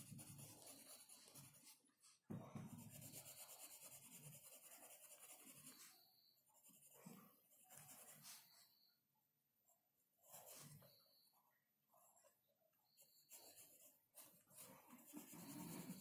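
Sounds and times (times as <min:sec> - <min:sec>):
pencil scratching on paper: 0:00.0 - 0:08.9, 0:10.2 - 0:11.2, 0:12.0 - 0:16.0.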